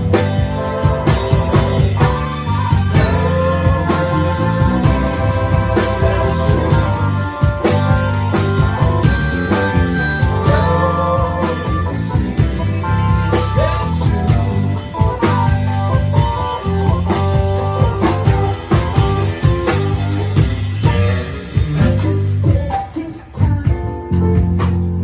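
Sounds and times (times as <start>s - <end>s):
live band with electric guitar: 0.0s - 25.0s.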